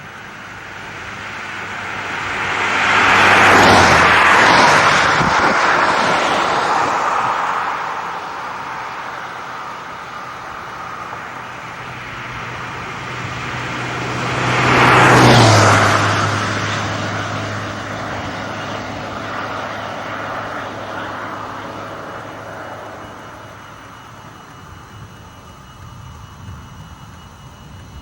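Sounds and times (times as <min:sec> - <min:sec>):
vehicle driving past: 0:00.6 - 0:24.2.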